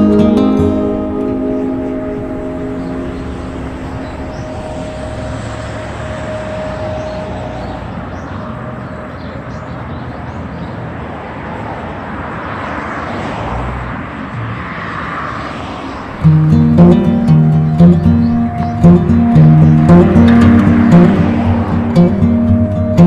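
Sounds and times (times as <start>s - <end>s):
traffic noise: 0.0s - 23.0s
vehicle passing: 0.0s - 23.0s.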